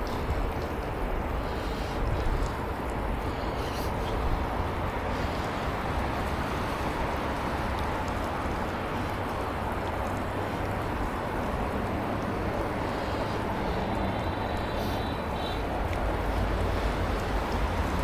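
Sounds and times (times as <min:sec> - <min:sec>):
bicycle tyre rumble on road: 0:00.0 - 0:18.0
wind noise on microphone: 0:00.0 - 0:18.0.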